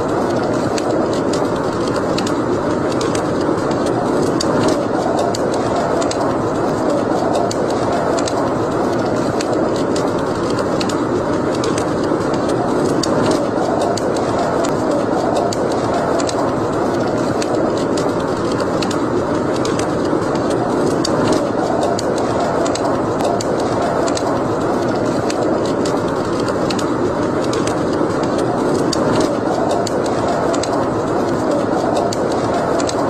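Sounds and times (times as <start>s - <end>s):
fire roaring: 0.0s - 33.0s
wood fire crackling and popping: 0.0s - 33.0s.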